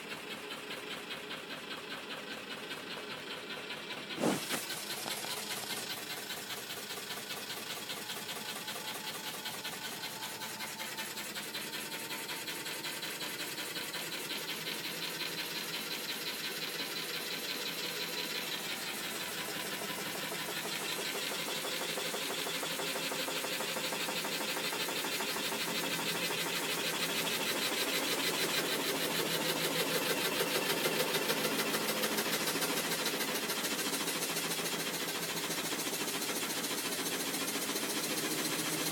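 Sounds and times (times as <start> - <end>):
machine running with pulsing noise: 0.0 - 38.9.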